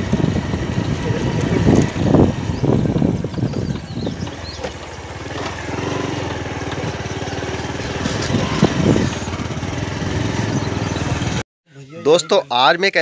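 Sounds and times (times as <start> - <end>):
motorcycle engine running: 0.0 - 11.4
wind buffeting microphone: 0.0 - 11.4.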